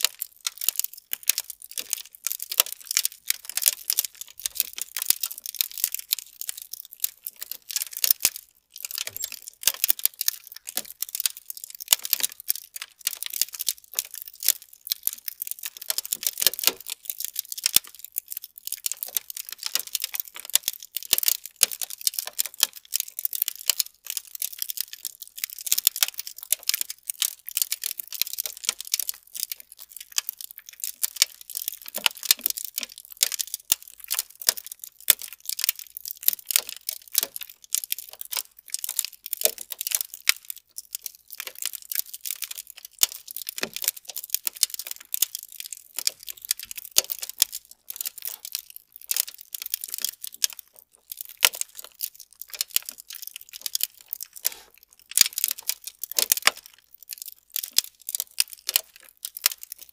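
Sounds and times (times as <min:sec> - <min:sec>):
grains pattering on foil: 0:00.0 - 0:59.9.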